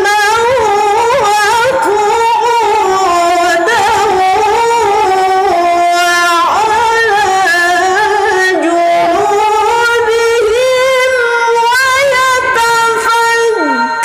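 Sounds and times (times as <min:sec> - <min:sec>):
woman reciting melodically: 0:00.0 - 0:14.0.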